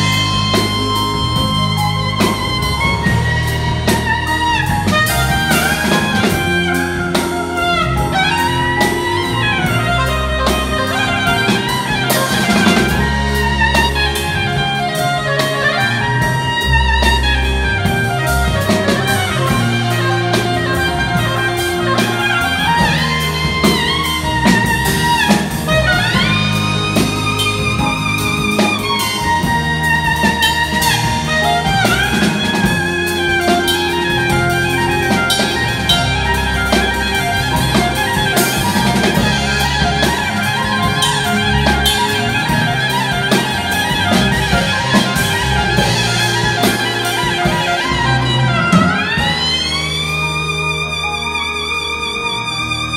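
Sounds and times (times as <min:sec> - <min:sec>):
drum kit: 0:00.0 - 0:52.9
electric bass: 0:00.0 - 0:52.9
electric guitar: 0:00.0 - 0:52.9
keyboard: 0:00.0 - 0:52.9
soprano saxophone lead: 0:00.0 - 0:52.9.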